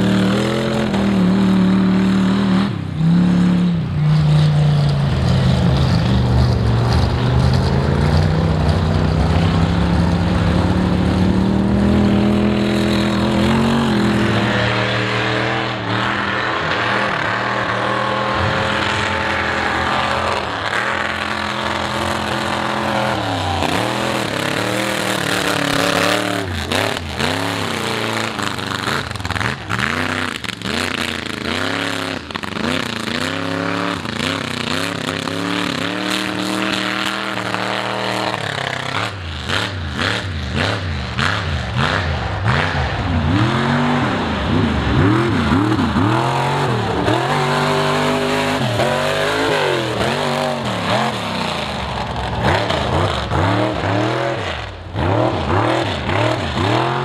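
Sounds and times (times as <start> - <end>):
engine crackling: 0.0 - 57.0
truck engines revving hard: 0.0 - 57.0.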